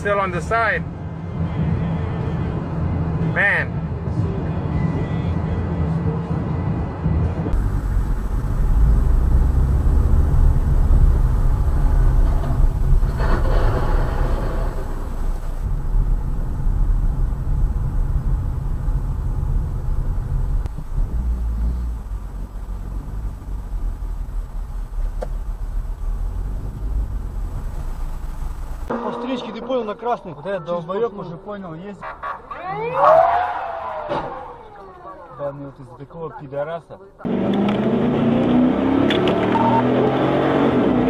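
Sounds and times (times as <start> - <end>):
car road and engine rumble: 0.0 - 35.9, 37.0 - 41.0.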